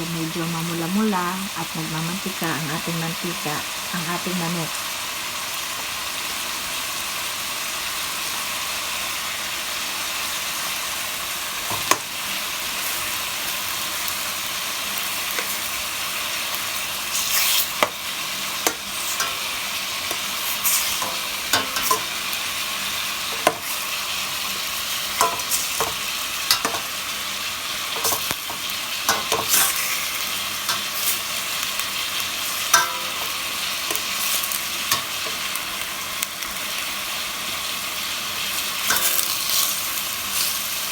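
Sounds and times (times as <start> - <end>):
chicken sizzling in hot oil: 0.0 - 40.9.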